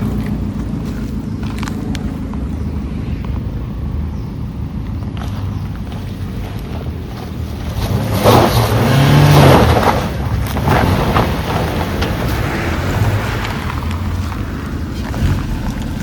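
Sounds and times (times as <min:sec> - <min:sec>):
off-road vehicle engine revving: 0:00.0 - 0:16.0
rush of rough noise: 0:00.0 - 0:16.0.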